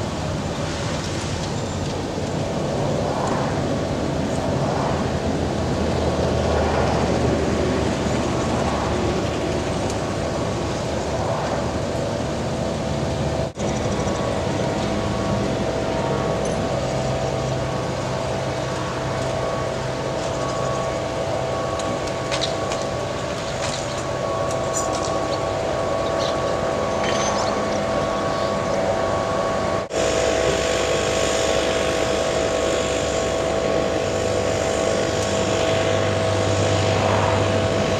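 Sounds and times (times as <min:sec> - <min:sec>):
hydraulic whine: 0:00.0 - 0:37.9
truck engine running: 0:00.0 - 0:37.9.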